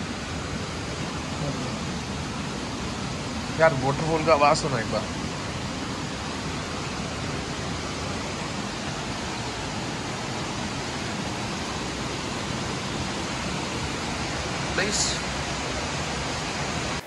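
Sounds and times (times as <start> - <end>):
water rushing over waterfall: 0.0 - 17.0.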